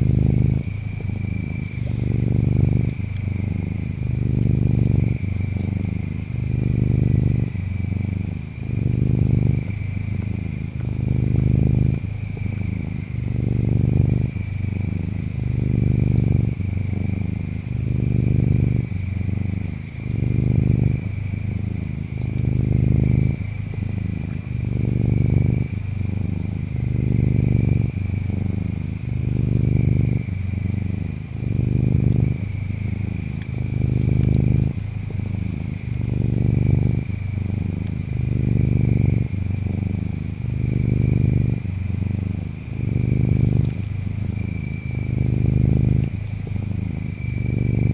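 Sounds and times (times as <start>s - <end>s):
cat purring: 0.0s - 47.9s
insects chirping: 0.0s - 47.9s.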